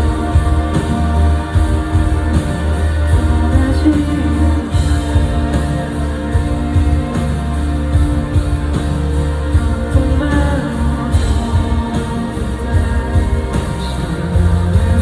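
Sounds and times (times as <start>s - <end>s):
live pop-rock band: 0.0s - 15.0s.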